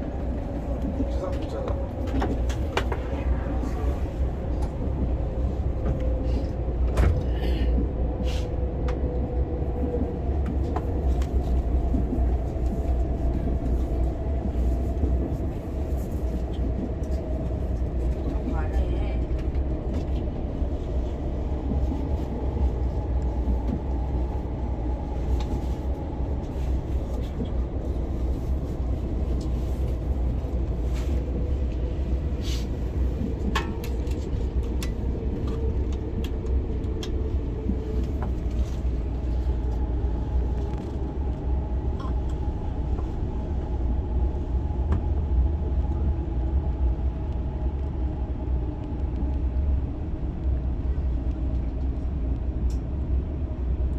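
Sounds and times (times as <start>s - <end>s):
train cabin low rumble: 0.0s - 53.9s.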